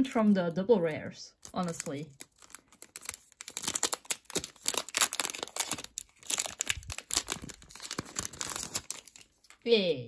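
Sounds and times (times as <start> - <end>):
foil wrapper crinkling and tearing: 1.4 - 9.6.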